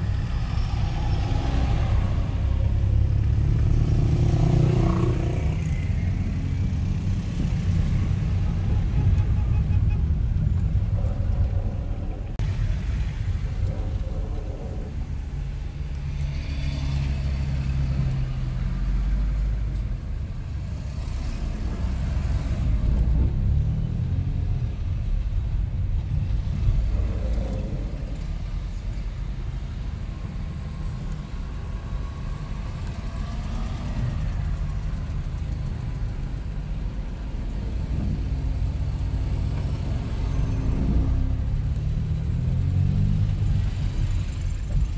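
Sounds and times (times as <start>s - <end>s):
car engine and tyres rumbling: 0.0s - 44.9s.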